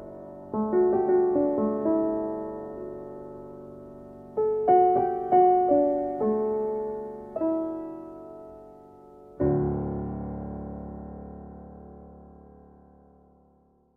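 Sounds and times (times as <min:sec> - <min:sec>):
piano notes and chord: 0:00.0 - 0:13.9.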